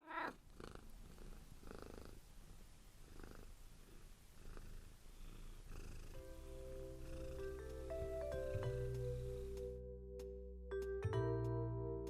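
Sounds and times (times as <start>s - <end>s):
cat purring: 0.0s - 9.8s.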